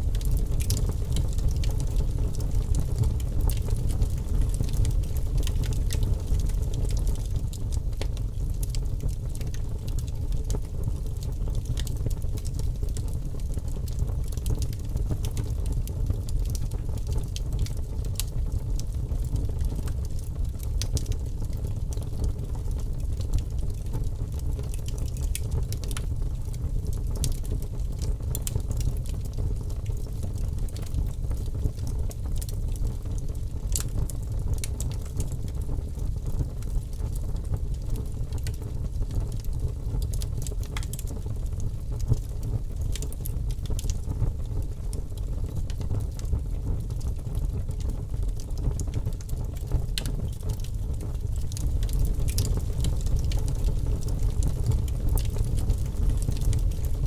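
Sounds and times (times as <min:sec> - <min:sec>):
fire crackling and popping: 0:00.0 - 0:57.0
low rumble of campfire flames: 0:00.0 - 0:57.0.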